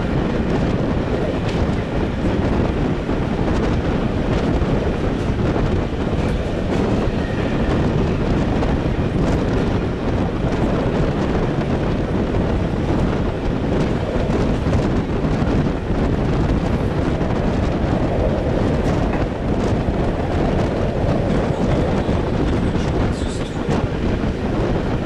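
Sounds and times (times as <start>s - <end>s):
train wheels rumbling on rails: 0.0s - 25.0s
wind buffeting microphone: 0.0s - 25.0s.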